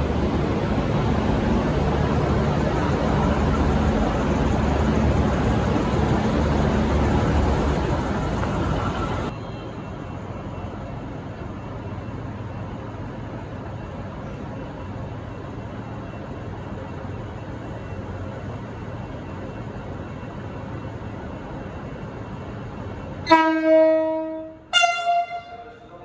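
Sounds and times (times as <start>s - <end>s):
diesel railcar engine drone: 0.0s - 26.0s.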